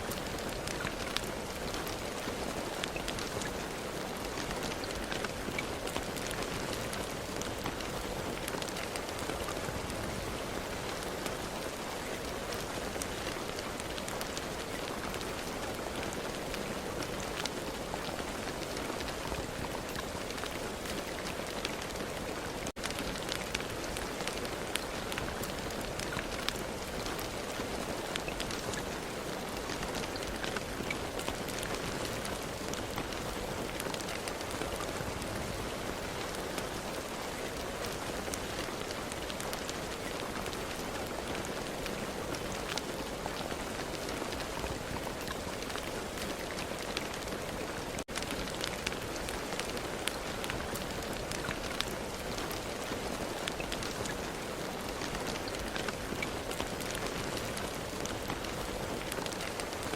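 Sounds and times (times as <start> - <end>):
rain drops ticking on surface: 0.0 - 59.9.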